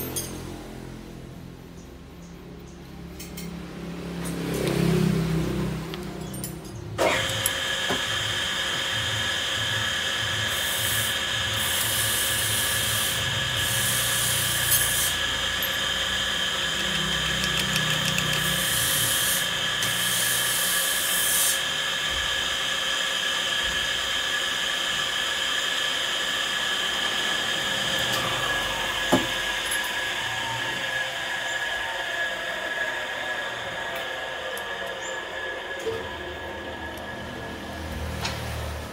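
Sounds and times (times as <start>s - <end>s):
machine motor whining: 7.0s - 38.9s.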